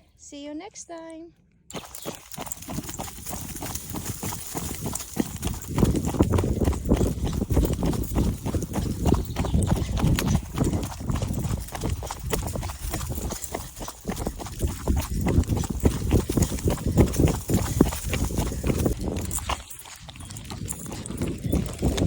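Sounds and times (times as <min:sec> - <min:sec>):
running footsteps: 0:01.7 - 0:22.0.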